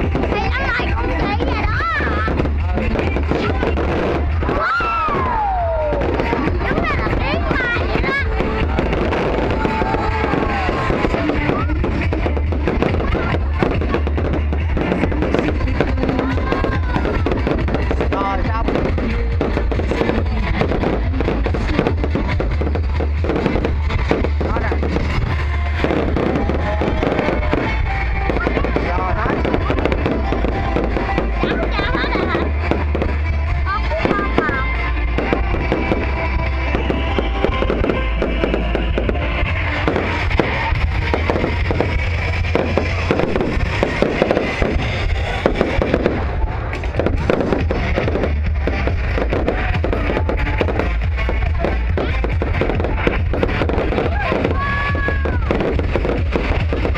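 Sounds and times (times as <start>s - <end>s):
fireworks crackling and popping: 0.0s - 56.9s
low rumble: 0.0s - 56.9s
music: 0.0s - 56.9s
people's voices: 0.0s - 56.9s.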